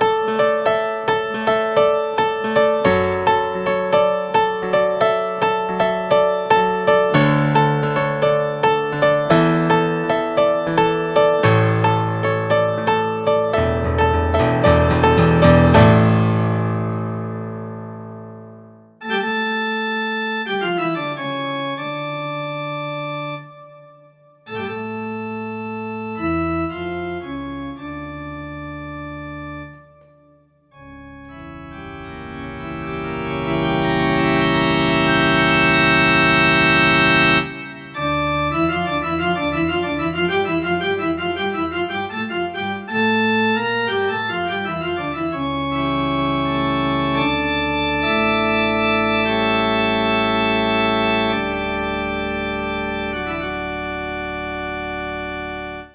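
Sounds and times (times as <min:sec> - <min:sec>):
organ chords: 0:00.0 - 0:55.9.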